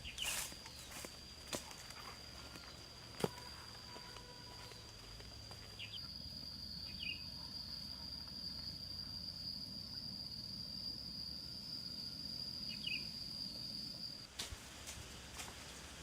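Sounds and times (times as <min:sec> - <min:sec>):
high-pitched insect drone: 0:00.0 - 0:14.3.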